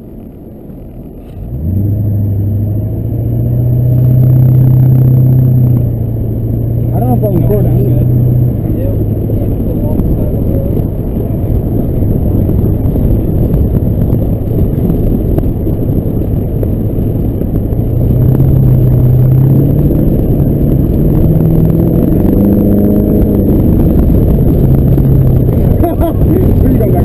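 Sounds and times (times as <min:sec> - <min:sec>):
diesel pickup engine rumbling: 0:00.0 - 0:27.0.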